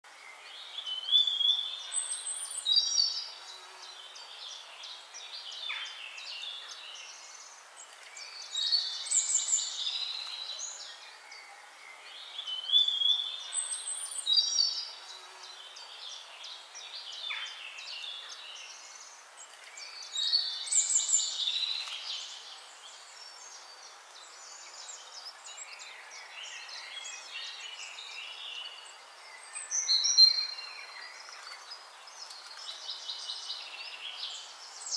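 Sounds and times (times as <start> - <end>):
songbirds singing: 0.1 - 34.9.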